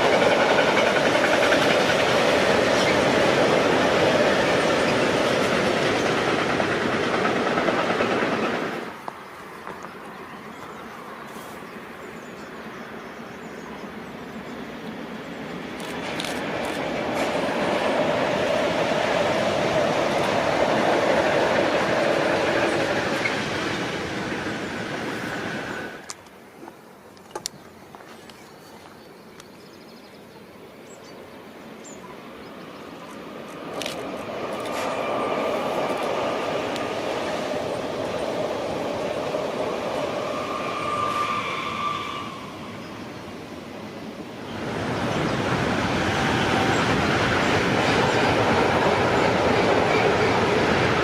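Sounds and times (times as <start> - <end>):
train passing rumble: 0.0 - 26.4, 30.7 - 51.0.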